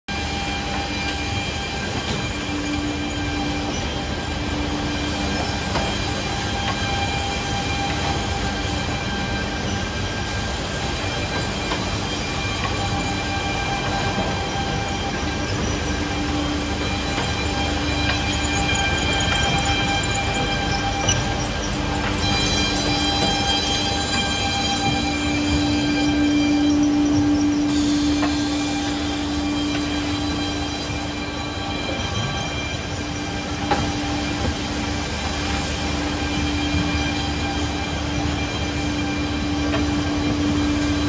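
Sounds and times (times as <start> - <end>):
edge banding machine drone: 0.2 - 41.0.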